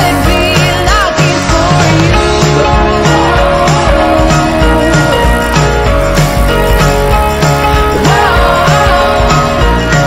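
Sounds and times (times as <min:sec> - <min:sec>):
pop music with drum beat: 0:00.0 - 0:10.0.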